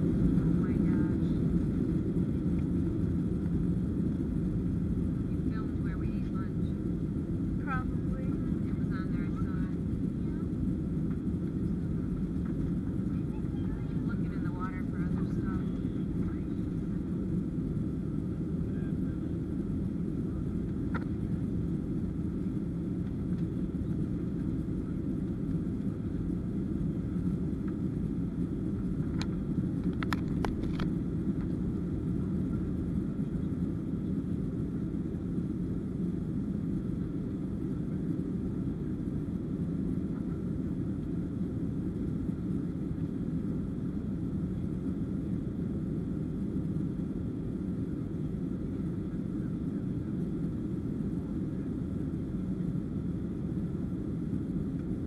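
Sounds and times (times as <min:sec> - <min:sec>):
airliner cabin engine drone: 0:00.0 - 0:55.0.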